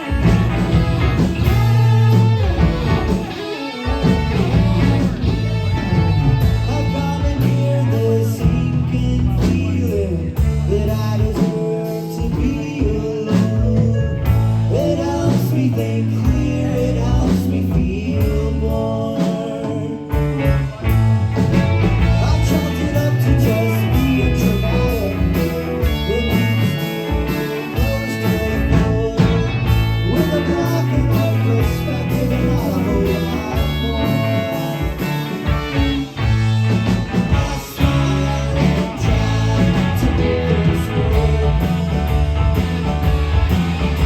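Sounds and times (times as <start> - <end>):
person singing: 0.0 - 42.9
electric guitar: 0.0 - 44.0
live band playing: 0.0 - 44.0.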